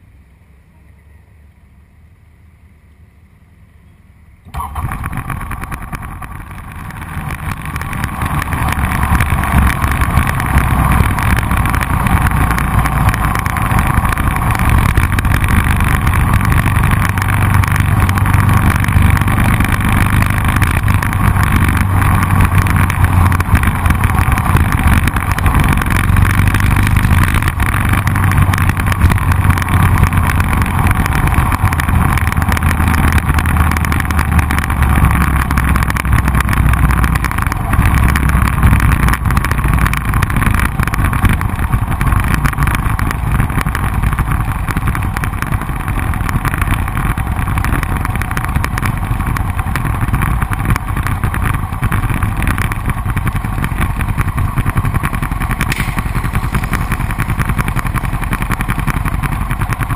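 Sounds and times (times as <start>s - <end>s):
wind and road noise: 0.0s - 59.9s
motorcycle engine cruising: 4.5s - 59.9s.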